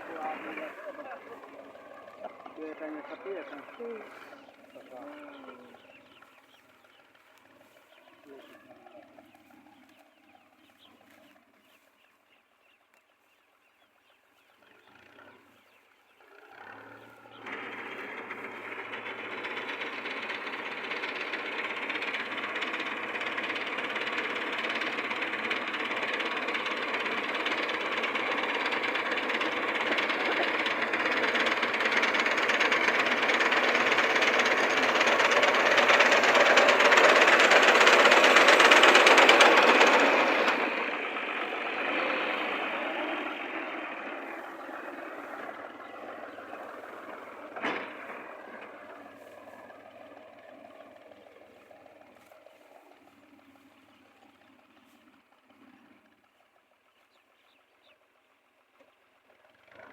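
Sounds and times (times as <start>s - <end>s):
tractor engine running: 0.0s - 13.4s, 14.0s - 59.9s.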